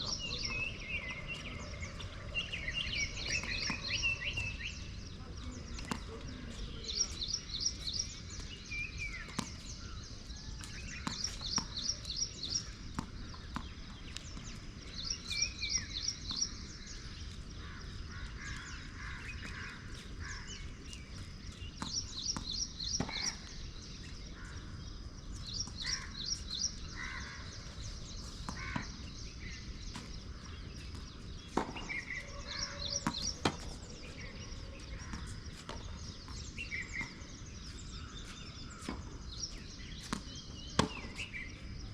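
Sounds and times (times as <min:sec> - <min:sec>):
scattered bird calls: 0:00.0 - 0:41.9.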